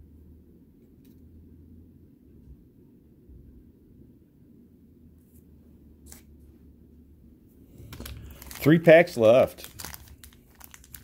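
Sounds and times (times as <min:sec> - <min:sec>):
faint low room hum: 0:00.0 - 0:11.0.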